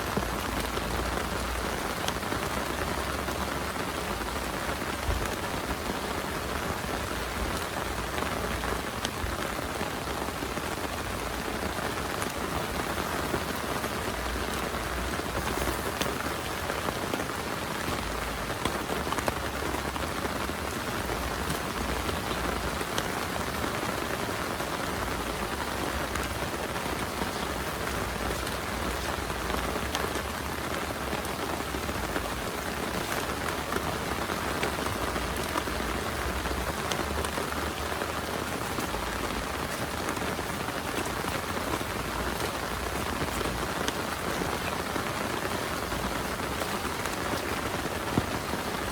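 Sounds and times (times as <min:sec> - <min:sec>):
heavy rain falling: 0:00.0 - 0:48.9
sharp raindrop hits: 0:00.0 - 0:48.9.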